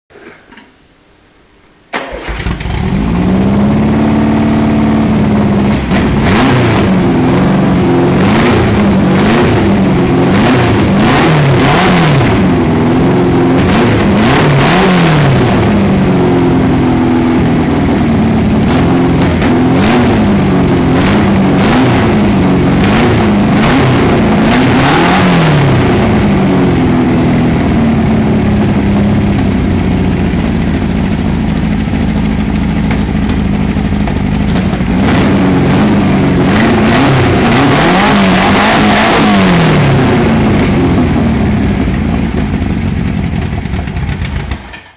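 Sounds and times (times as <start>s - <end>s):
car engine starting and revving: 1.9s - 44.7s.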